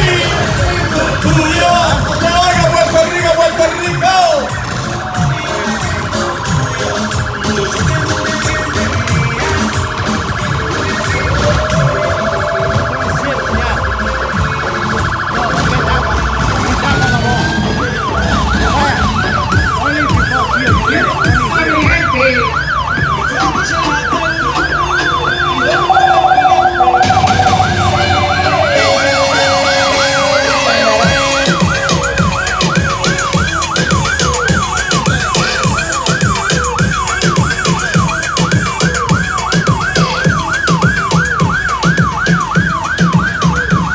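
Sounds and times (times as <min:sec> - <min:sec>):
emergency vehicle siren: 0:00.0 - 0:43.9.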